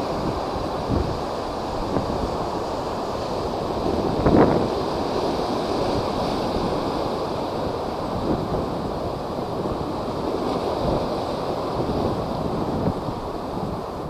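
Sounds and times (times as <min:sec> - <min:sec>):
waves surging and breaking: 0:00.0 - 0:14.0
wind buffeting microphone: 0:00.0 - 0:14.0.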